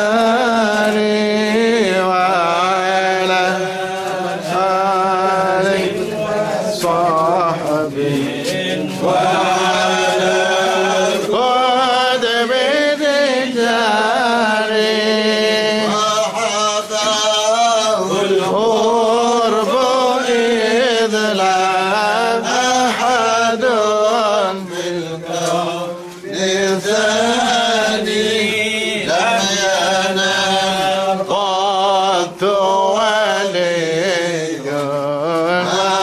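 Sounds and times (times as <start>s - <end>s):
devotional chanting: 0.0s - 36.0s.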